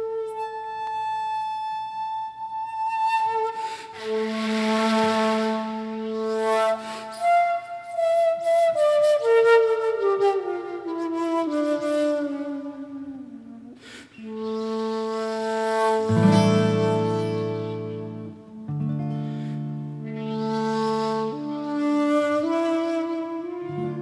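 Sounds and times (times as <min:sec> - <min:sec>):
guitar accompaniment: 0:00.0 - 0:08.0, 0:11.8 - 0:24.0
shakuhachi slow melody: 0:00.0 - 0:24.0.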